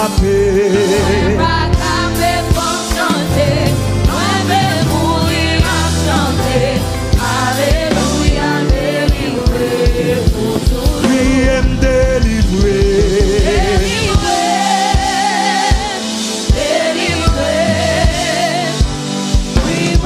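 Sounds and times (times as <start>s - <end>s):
instrumental backing with steady beat: 0.0s - 20.0s
women singing together: 0.9s - 11.4s, 13.3s - 19.0s, 19.6s - 20.0s.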